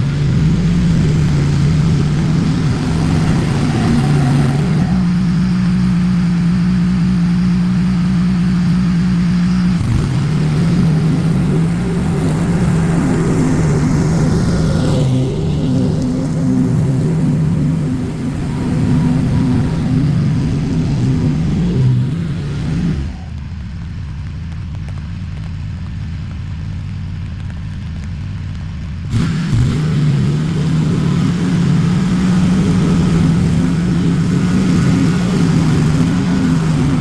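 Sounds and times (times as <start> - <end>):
small petrol engine running: 0.0 - 37.0.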